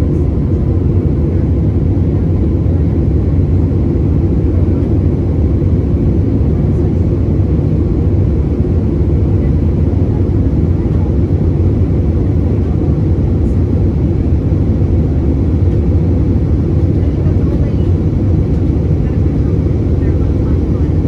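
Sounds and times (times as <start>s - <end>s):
jet engines humming: 0.0s - 21.0s.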